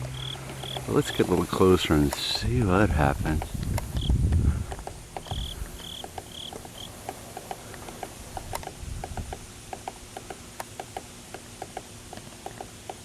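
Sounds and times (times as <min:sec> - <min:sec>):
woodpecker tapping on wood: 0:00.0 - 0:13.0.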